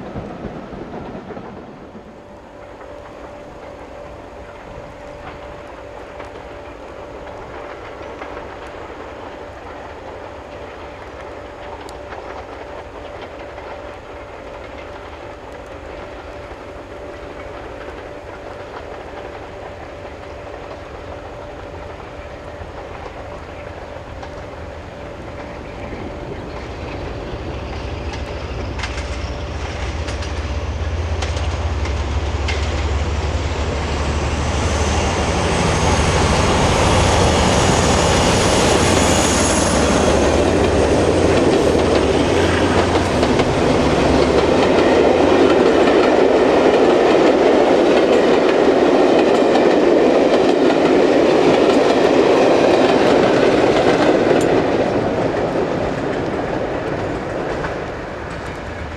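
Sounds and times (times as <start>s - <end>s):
train running on rails: 0.0s - 58.9s.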